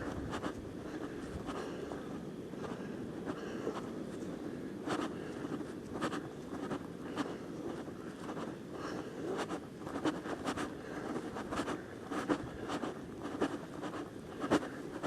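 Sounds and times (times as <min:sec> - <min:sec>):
clothing rustling on microphone: 0:00.0 - 0:15.0.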